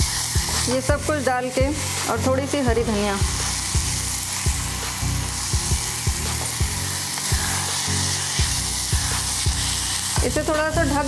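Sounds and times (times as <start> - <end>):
background music with even beat: 0.0 - 11.0
masala sizzling in oil: 0.0 - 11.0.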